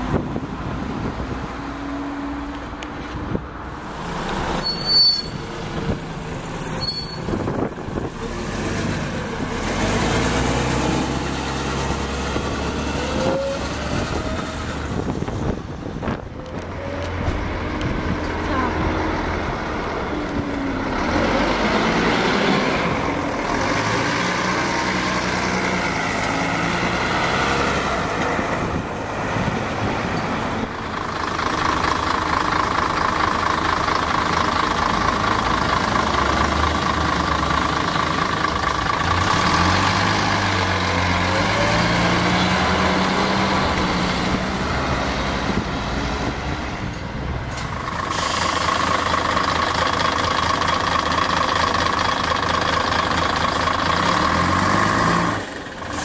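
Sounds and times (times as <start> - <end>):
diesel buses driving past: 0.0 - 56.0
steady high whine from bus: 0.0 - 56.0.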